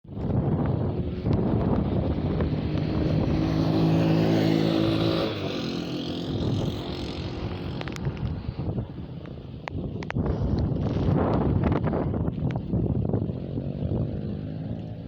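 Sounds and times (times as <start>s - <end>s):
storm wind buffeting microphone: 0.1s - 15.0s.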